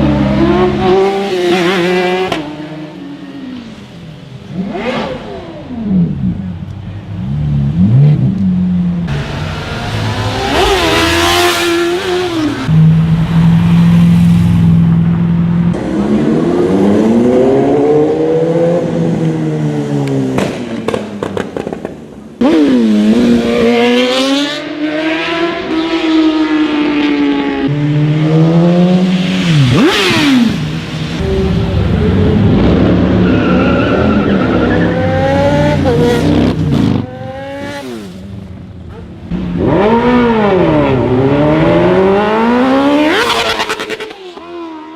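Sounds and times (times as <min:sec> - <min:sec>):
high-revving motorcycle engines: 0:00.0 - 0:44.9.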